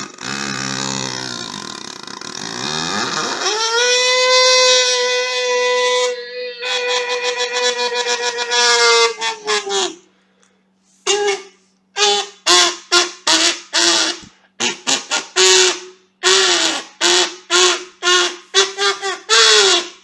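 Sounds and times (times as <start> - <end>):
kazoo buzzing notes: 0.0 - 20.0.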